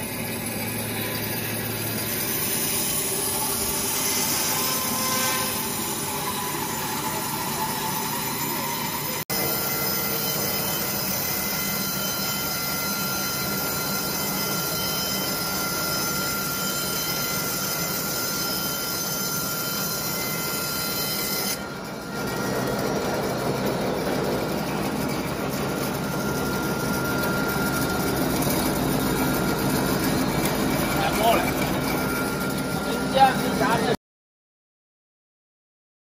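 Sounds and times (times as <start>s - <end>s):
portable sawmill cutting wood: 0.0s - 34.0s
thin high tone: 0.6s - 34.0s.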